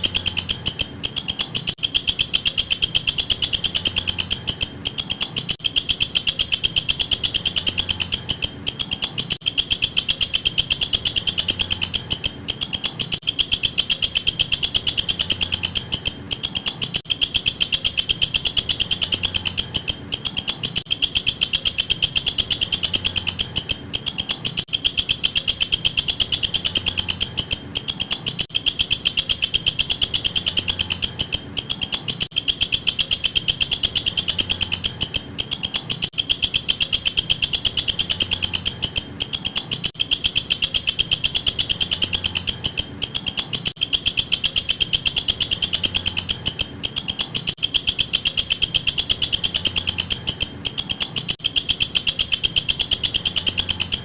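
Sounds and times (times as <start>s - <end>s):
bush cricket buzzing trill: 0.0s - 54.0s.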